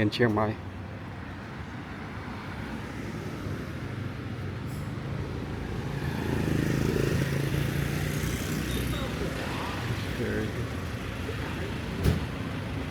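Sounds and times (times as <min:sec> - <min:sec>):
vehicle engine humming: 0:00.7 - 0:12.9.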